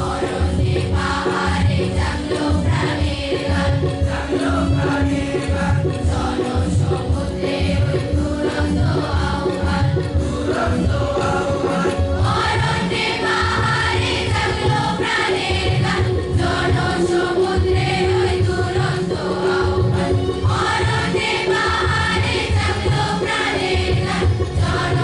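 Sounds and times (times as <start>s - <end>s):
group of voices singing: 0.0s - 25.0s
instrumental backing: 0.0s - 25.0s.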